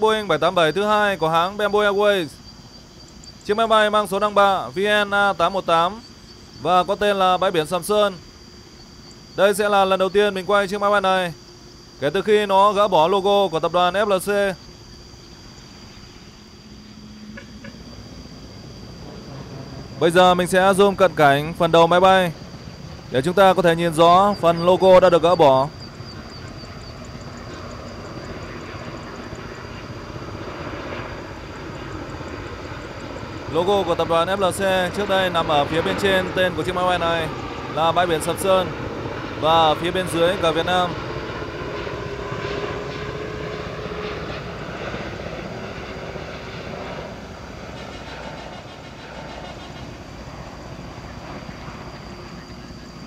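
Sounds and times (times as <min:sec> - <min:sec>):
jet engine noise: 0:00.0 - 0:53.0.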